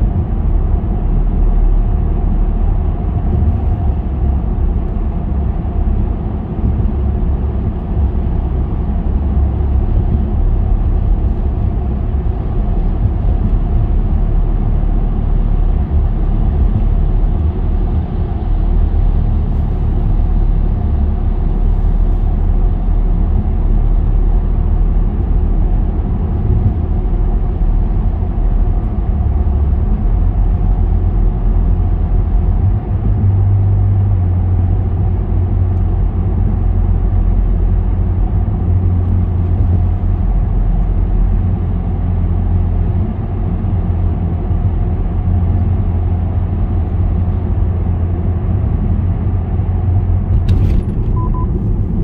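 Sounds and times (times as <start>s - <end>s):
car driving through tunnel: 0.0s - 52.0s.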